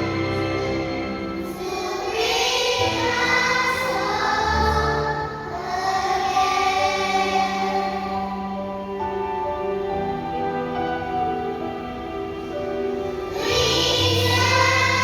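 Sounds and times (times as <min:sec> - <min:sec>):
choir singing: 0:00.0 - 0:11.7, 0:12.4 - 0:15.0.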